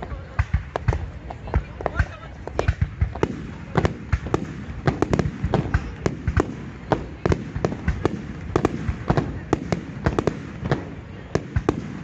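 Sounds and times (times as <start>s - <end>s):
fireworks bursting with bangs: 0.0s - 12.0s.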